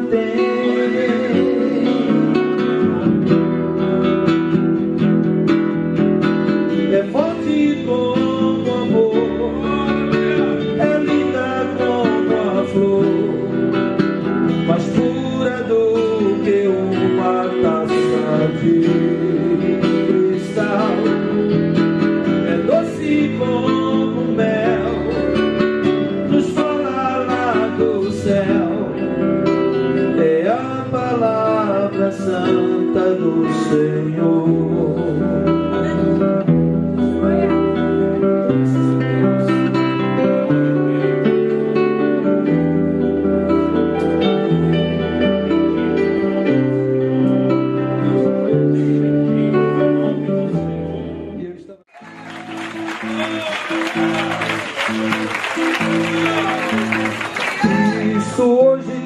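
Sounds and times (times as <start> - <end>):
man singing: 0.0 - 5.5, 6.4 - 50.6, 53.1 - 59.0
acoustic guitar: 0.0 - 59.0.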